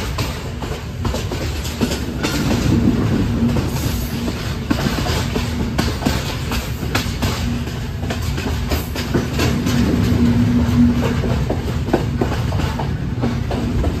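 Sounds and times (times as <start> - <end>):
train rumbling: 0.0 - 14.0
wheels clacking over rail joints: 0.0 - 14.0.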